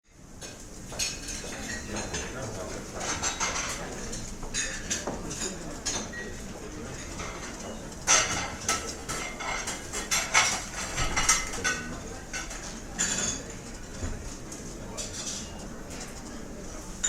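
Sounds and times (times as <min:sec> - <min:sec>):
low room hubbub: 0:00.1 - 0:17.0
cutlery and dishes clinking: 0:00.4 - 0:16.4.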